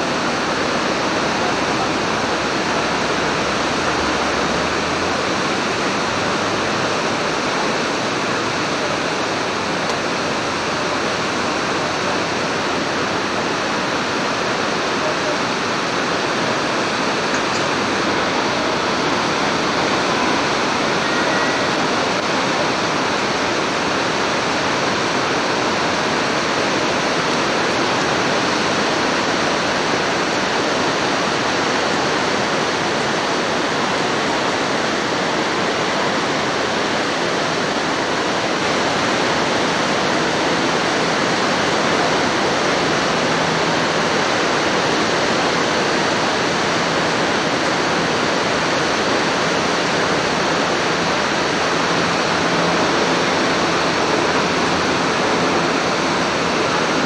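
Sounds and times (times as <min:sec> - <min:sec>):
white-water rapids rushing: 0:00.0 - 0:57.0.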